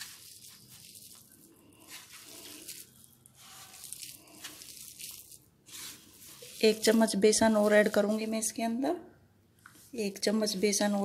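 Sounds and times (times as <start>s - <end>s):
hand mixing wet dough: 0.0s - 8.8s, 9.8s - 11.0s.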